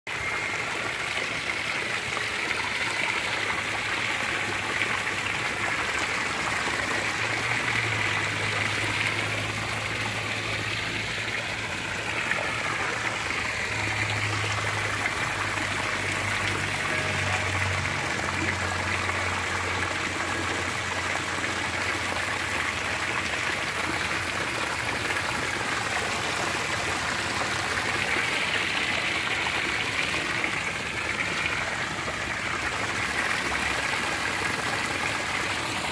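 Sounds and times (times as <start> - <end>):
waterfall splashing into pond: 0.1 - 35.9.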